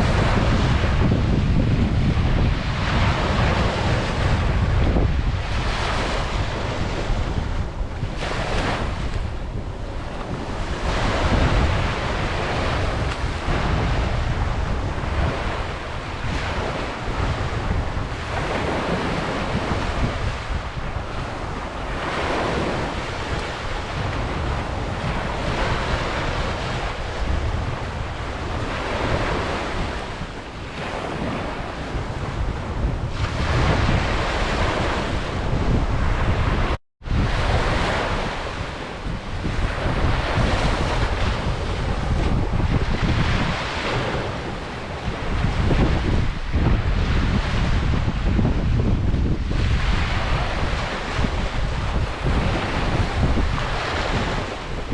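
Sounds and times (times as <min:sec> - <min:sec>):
low rumble of surf: 0:00.0 - 0:54.9
ocean waves breaking: 0:00.0 - 0:54.9
wind buffeting microphone: 0:00.0 - 0:54.9.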